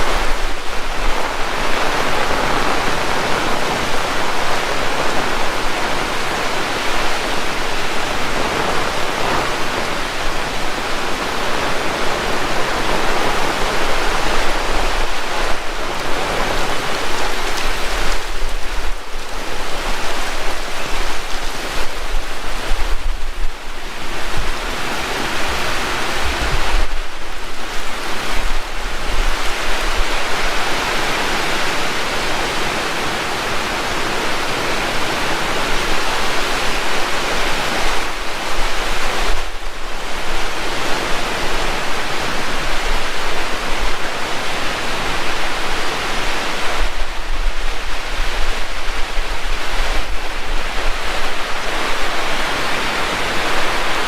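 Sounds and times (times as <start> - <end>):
heavy rain: 0.0 - 54.0
wind buffeting microphone: 0.0 - 54.0.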